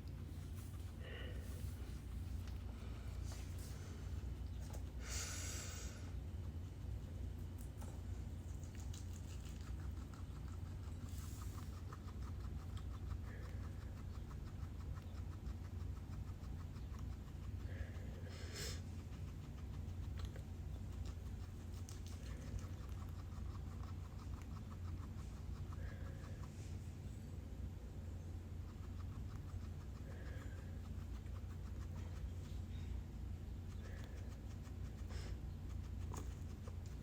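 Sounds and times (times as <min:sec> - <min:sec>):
guinea pig rustling and scratching: 0:00.0 - 0:05.4, 0:06.1 - 0:37.0
low steady hum: 0:00.0 - 0:37.0.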